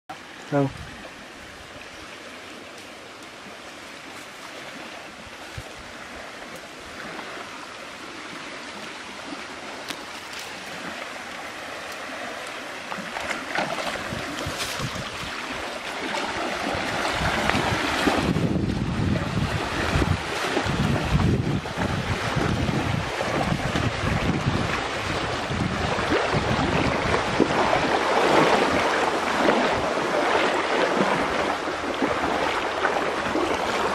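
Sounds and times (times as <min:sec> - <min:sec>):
person wading through river: 0:00.1 - 0:33.9
stream water flowing: 0:00.1 - 0:33.9.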